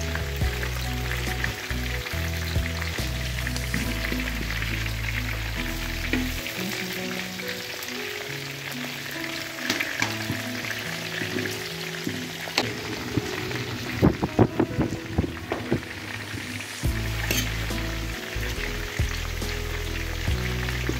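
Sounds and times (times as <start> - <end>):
pork deep-frying in fat: 0.0 - 20.9.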